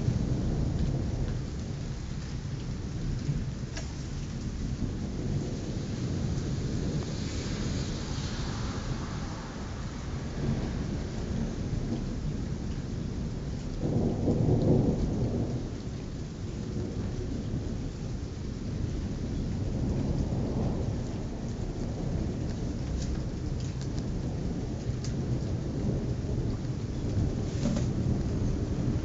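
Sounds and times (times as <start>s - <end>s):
heavy rain: 0.0s - 29.0s
thunder rumbling: 0.0s - 29.0s.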